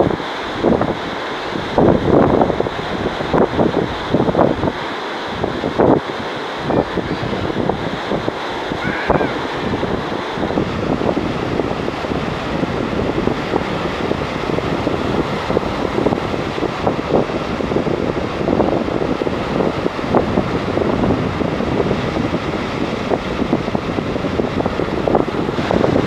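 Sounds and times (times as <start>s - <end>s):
waves breaking on rocks: 0.0s - 26.0s
wind buffeting microphone: 0.0s - 26.0s.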